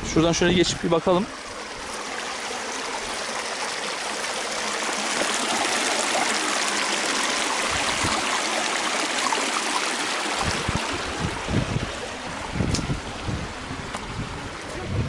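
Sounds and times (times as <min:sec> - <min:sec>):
stream trickling over rocks: 0:00.0 - 0:14.9.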